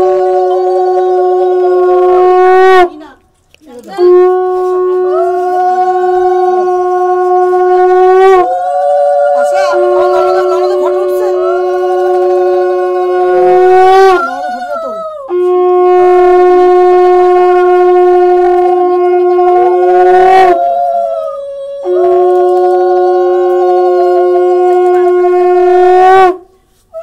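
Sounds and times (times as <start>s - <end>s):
conch shells blowing: 0.0s - 27.0s.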